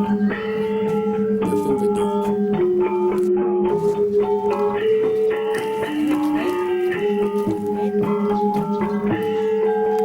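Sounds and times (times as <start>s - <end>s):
held notes changing pitch: 0.0s - 10.0s.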